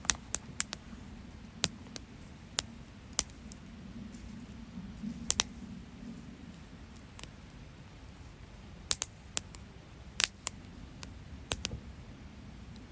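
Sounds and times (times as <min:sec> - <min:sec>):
campfire popping and snapping: 0:00.0 - 0:12.9
low rumble of burning fire: 0:00.0 - 0:12.9.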